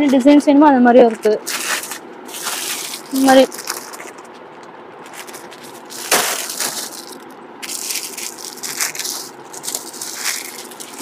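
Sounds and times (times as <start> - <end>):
plastic packets crinkling: 1.4 - 11.0.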